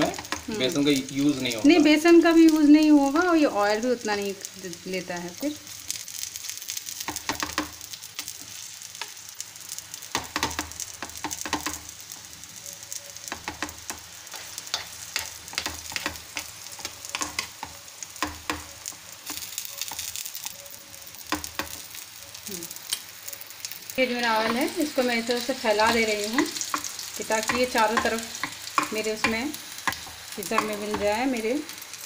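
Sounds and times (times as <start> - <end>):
bread sizzling in hot oil: 0.0 - 32.0.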